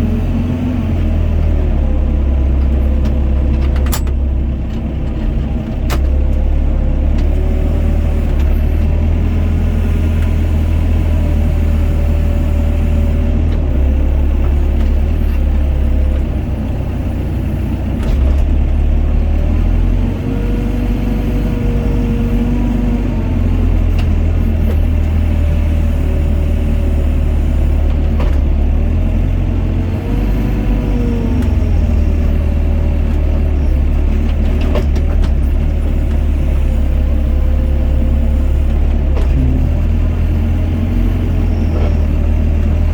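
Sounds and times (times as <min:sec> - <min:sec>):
excavator diesel engine whining: 0:00.0 - 0:42.9.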